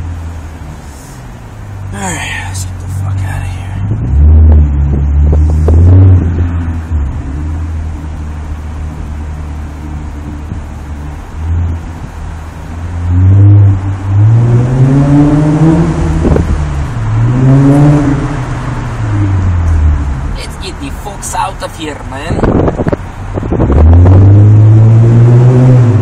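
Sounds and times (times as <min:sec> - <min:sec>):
car engine revving through exhaust: 0:00.0 - 0:20.8, 0:22.4 - 0:26.0.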